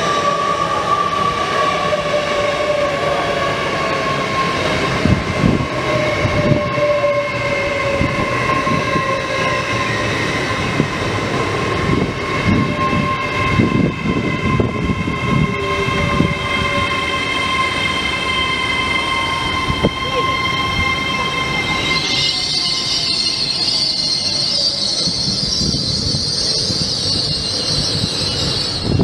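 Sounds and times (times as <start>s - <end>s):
train rushing past: 0.0s - 29.0s.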